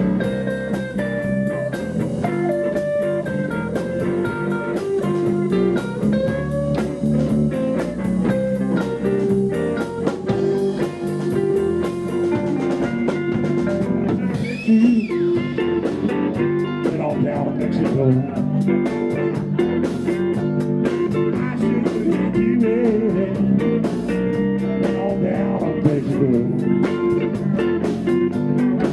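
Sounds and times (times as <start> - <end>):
drum kit beat: 0.0 - 28.9
electric bass: 0.0 - 28.9
electric guitar with bent notes: 0.0 - 28.9.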